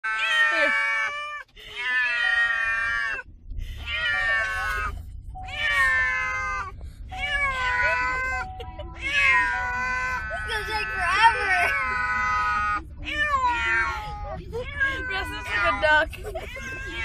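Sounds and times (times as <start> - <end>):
cat meowing: 0.0 - 3.2, 3.8 - 17.0.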